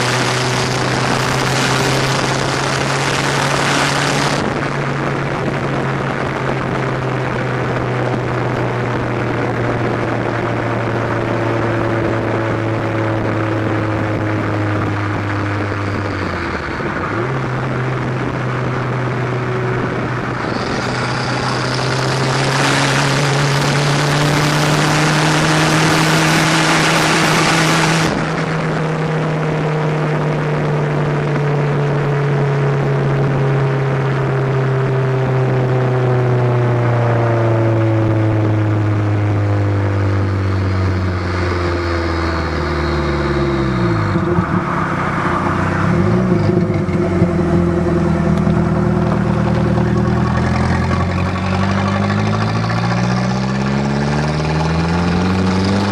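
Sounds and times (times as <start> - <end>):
car exhaust engine note: 0.0 - 55.9.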